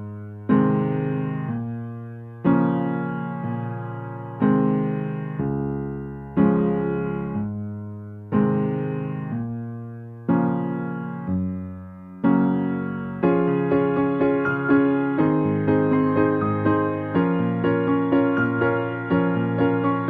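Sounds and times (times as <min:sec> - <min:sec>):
slow soft piano chords: 0:00.0 - 0:20.0.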